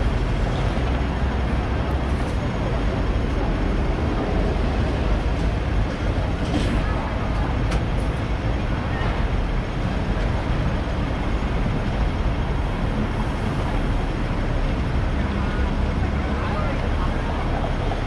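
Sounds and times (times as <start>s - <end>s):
low rumble of traffic and tram: 0.0s - 18.0s.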